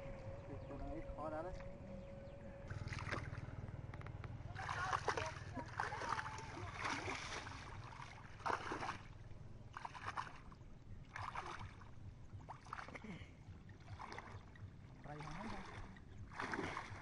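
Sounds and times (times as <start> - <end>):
low rumble: 0.0 - 17.0
muddy water sloshing and splashing: 2.5 - 17.0.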